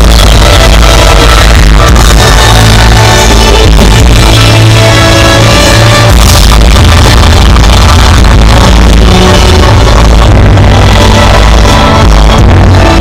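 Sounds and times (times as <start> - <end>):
loud electronic music with bass: 0.0 - 13.0.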